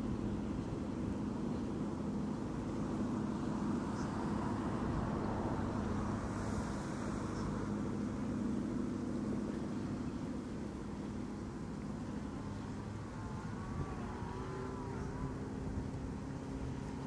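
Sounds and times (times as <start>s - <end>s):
outboard motorboat engine: 0.0s - 17.0s
water and hull noise: 0.0s - 17.0s.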